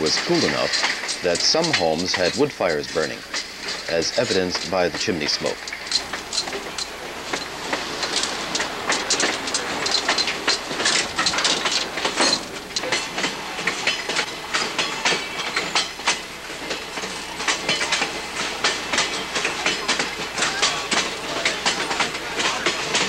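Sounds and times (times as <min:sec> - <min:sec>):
train rumble: 0:00.0 - 0:23.0
train wheel clicks and rattles: 0:00.0 - 0:23.0.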